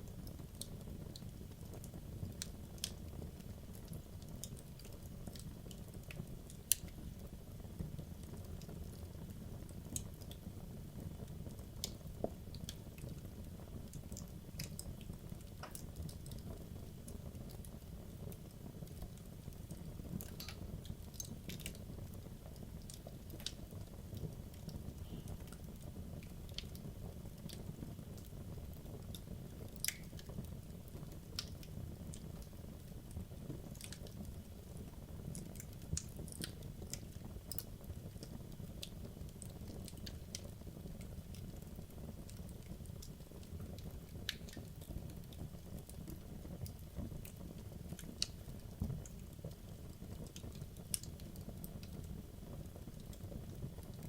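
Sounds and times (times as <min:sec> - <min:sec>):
burning wood crackling and popping: 0:00.0 - 0:54.0
low rumble of flames: 0:00.0 - 0:54.0.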